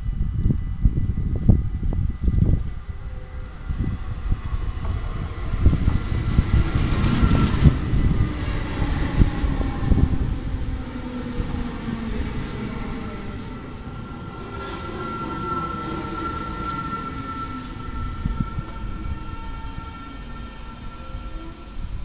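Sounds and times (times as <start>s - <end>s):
electric train whine: 0.0s - 22.0s.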